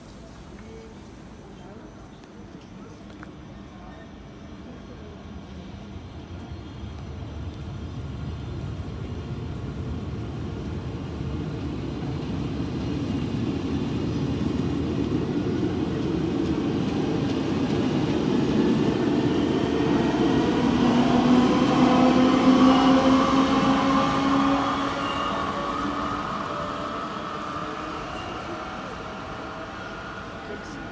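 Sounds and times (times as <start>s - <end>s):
multi-tone locomotive whine: 0.0s - 30.9s
train rumble: 4.8s - 30.9s.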